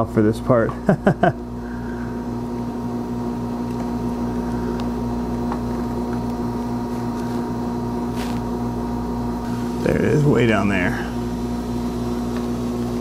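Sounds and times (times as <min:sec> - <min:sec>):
electrical machine hum: 0:00.0 - 0:13.0.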